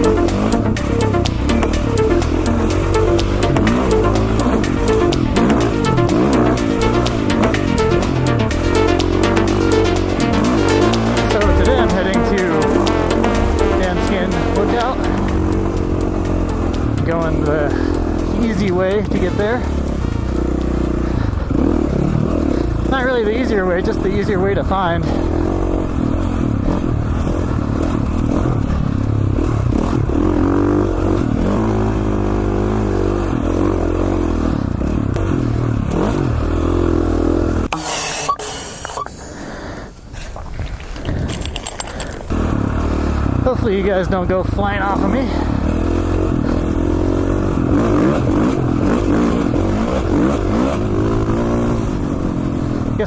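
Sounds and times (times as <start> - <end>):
dirt bike engine revving: 0.0 - 38.9, 42.3 - 53.0.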